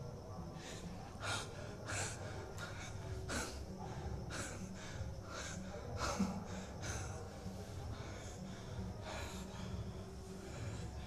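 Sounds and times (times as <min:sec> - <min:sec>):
person breathing hard: 0:00.5 - 0:11.0.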